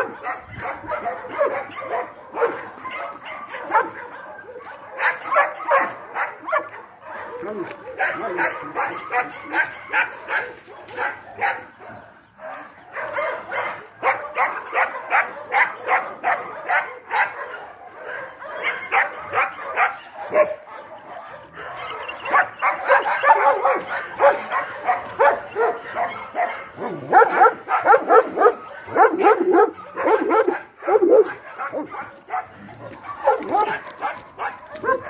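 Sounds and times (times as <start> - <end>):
dogs barking and yipping: 0.0 - 35.0.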